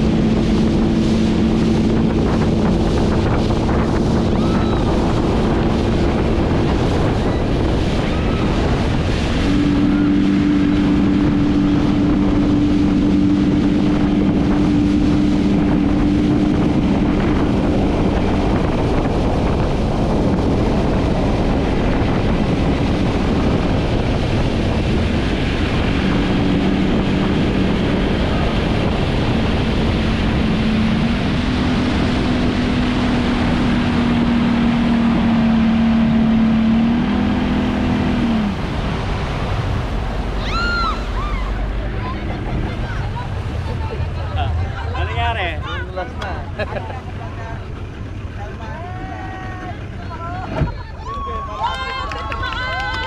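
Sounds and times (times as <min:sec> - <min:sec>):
outboard motor humming: 0:00.0 - 0:53.0
rushing water: 0:00.0 - 0:53.0
wind on microphone: 0:00.0 - 0:53.0.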